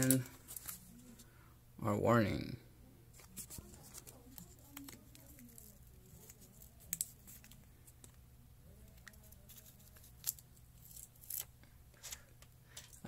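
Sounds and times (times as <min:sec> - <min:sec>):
paper label crinkling and peeling: 0:00.0 - 0:01.2, 0:03.2 - 0:13.0.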